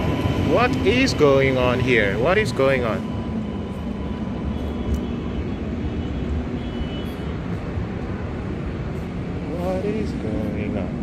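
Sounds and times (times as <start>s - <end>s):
train engine rumbling: 0.0s - 11.0s.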